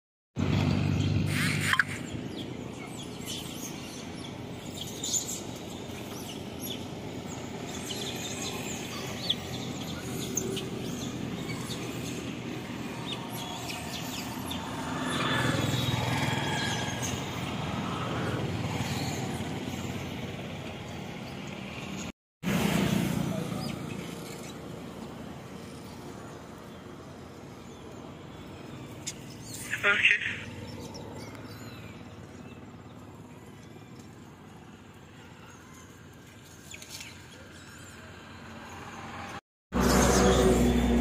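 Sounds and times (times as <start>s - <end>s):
birds chirping: 0.6s - 22.1s, 23.3s - 41.0s.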